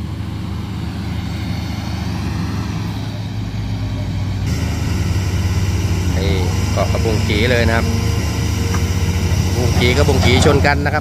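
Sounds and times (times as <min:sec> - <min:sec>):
excavator diesel engines droning: 0:00.0 - 0:11.0.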